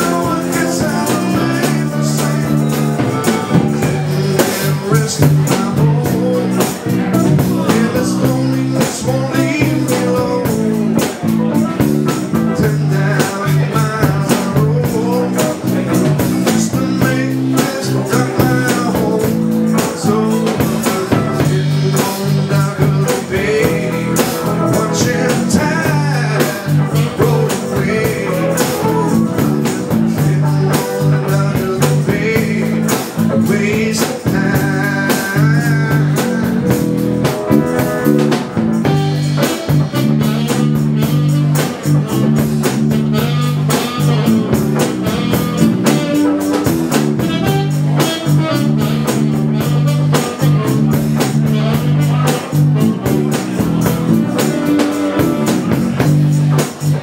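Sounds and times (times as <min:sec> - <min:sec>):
bass: 0:00.0 - 0:57.0
drum beat: 0:00.0 - 0:57.0
electric guitar: 0:00.0 - 0:57.0.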